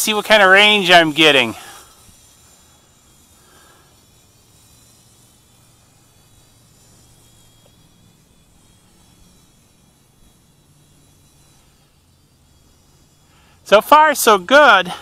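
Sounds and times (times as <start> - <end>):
quadcopter motors buzzing: 0.0 - 15.0.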